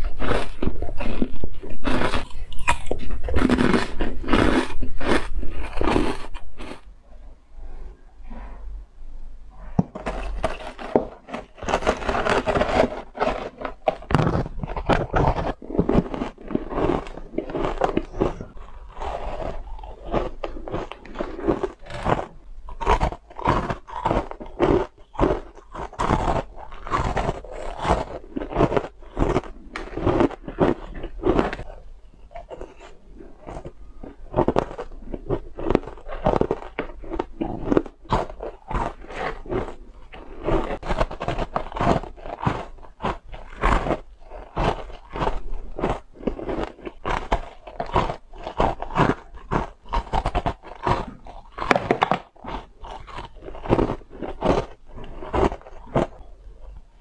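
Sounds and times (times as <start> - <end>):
crunchy ice bites and chewing: 0.0 - 6.9, 9.8 - 57.0.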